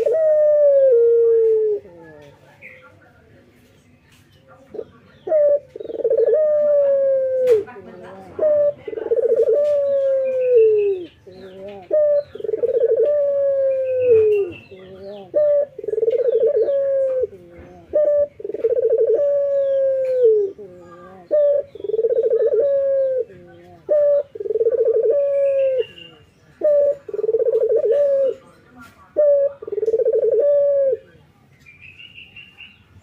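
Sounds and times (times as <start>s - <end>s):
dove cooing: 0.0s - 2.4s, 4.7s - 31.2s.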